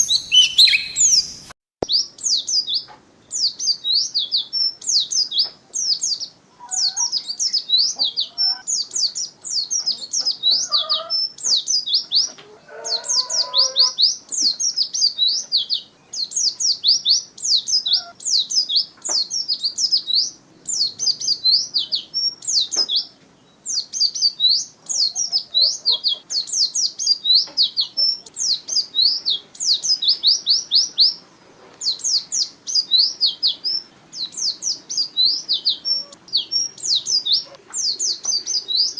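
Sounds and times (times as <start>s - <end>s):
bird singing high chirps: 0.0s - 31.2s, 31.8s - 38.9s.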